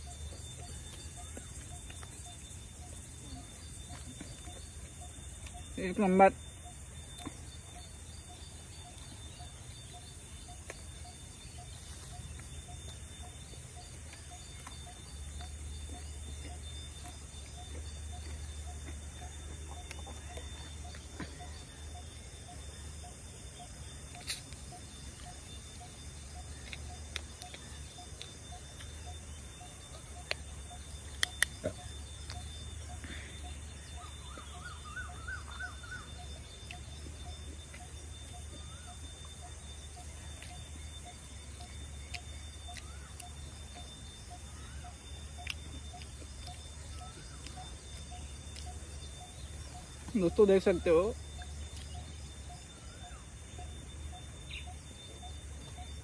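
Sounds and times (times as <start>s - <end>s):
birds calling: 0.0s - 56.0s
insects droning: 0.0s - 56.0s.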